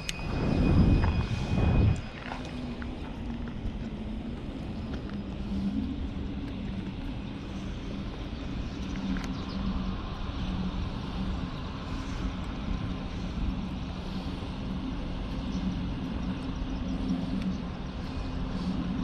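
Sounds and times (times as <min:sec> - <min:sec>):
motor droning: 0:00.0 - 0:19.0.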